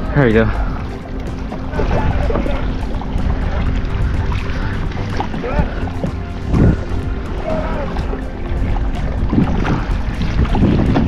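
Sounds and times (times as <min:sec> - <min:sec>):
water lapping against kayak hull: 0:00.0 - 0:11.0
wind rumbling on microphone: 0:00.0 - 0:11.0.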